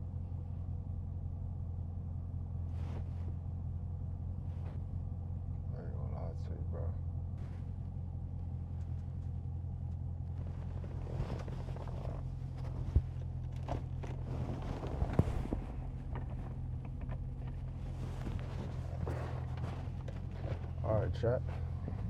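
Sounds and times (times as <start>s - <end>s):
car engine and tyres droning: 0.0s - 22.0s.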